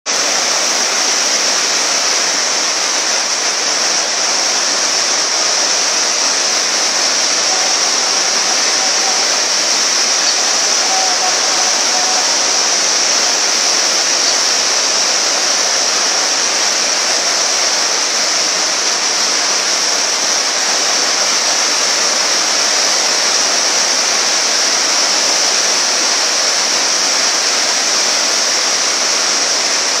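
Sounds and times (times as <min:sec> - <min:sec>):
river rushing in flood: 0:00.1 - 0:30.0.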